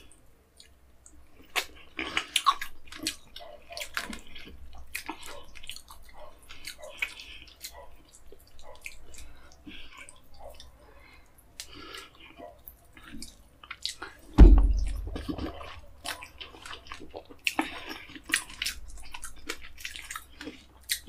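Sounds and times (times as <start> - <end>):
fingers squelching through food: 0.0 - 21.0
wet chewing and lip smacks: 0.0 - 21.0.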